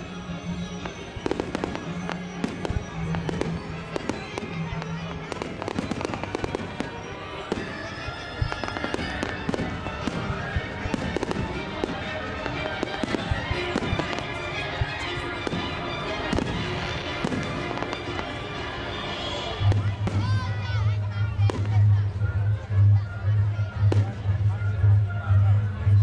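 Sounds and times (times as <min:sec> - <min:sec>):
fireworks bangs and crackles: 0:00.0 - 0:22.2, 0:23.6 - 0:25.2
music playing: 0:00.0 - 0:26.0.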